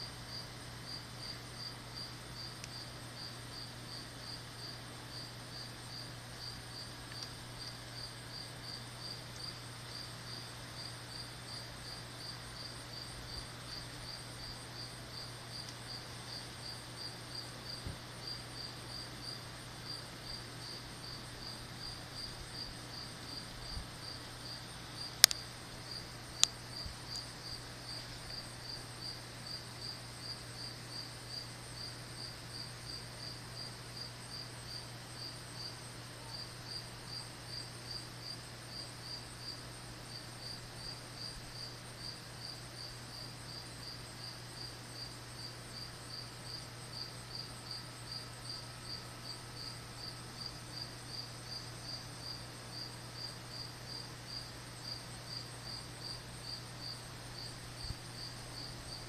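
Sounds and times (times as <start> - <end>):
crickets chirping: 0.0 - 59.0
steady low hum: 0.0 - 59.0.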